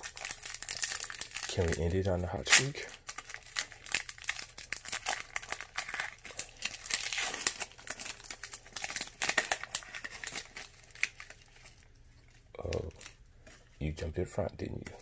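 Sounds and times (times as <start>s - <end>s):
foil wrapper crinkling: 0.0s - 14.1s.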